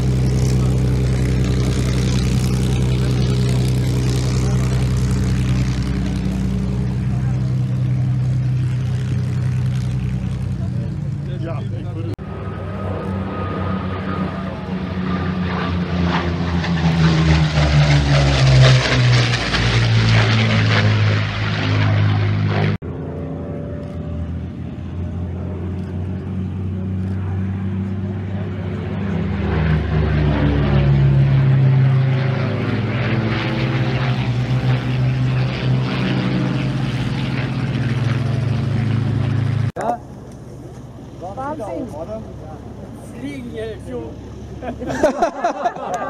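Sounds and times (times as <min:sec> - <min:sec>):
propeller plane flying overhead: 0:00.0 - 0:46.0.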